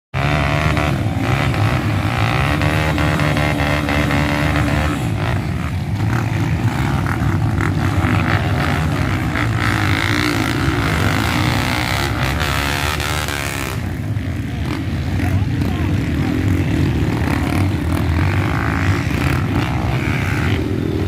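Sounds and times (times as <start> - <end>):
dirt bike engines revving: 0.2 - 21.0.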